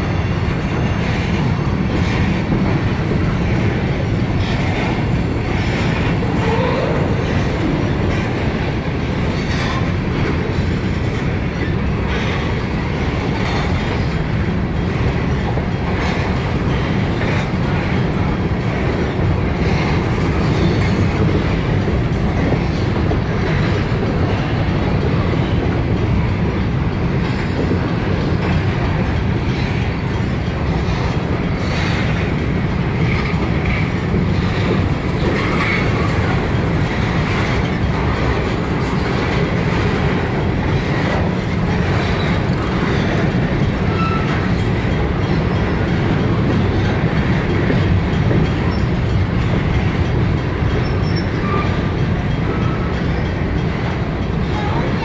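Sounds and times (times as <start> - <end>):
steel train wheels rumbling on rail: 0.0 - 55.0.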